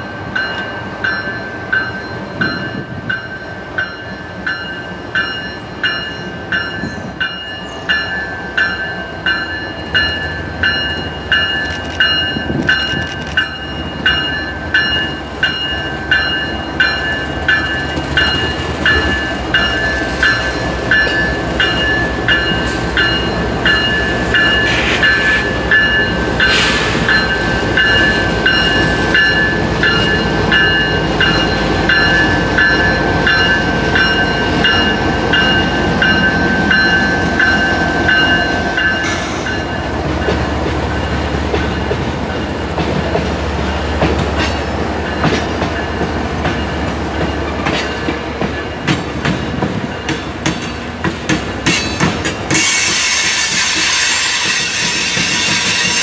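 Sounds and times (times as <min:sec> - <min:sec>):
crossing bell ringing: 0:00.0 - 0:43.9, 0:44.5 - 0:56.0
train rumble: 0:00.0 - 0:56.0.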